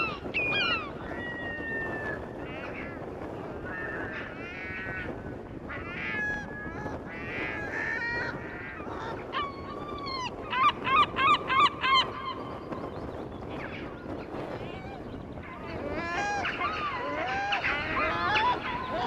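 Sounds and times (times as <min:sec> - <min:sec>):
gulls calling: 0:00.0 - 0:19.0
surf rushing: 0:00.0 - 0:19.0.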